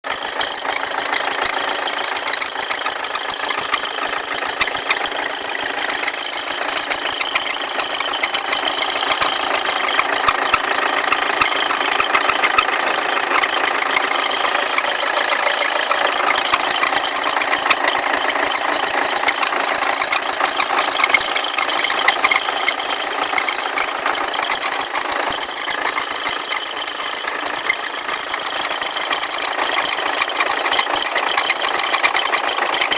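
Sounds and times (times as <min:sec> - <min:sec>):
diesel engine clattering: 0:00.0 - 0:32.9
high-pitched squeal: 0:00.2 - 0:30.1.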